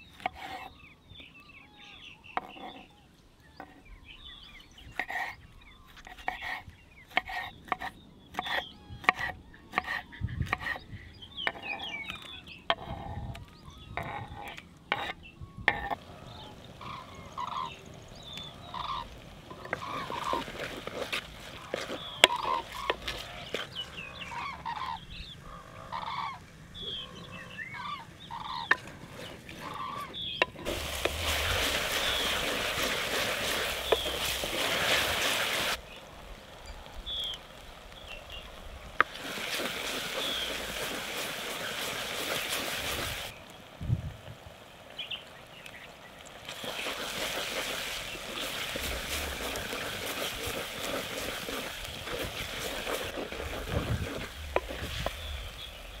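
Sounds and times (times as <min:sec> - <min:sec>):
birds calling and chirping: 0:00.0 - 0:43.7, 0:44.9 - 0:56.0.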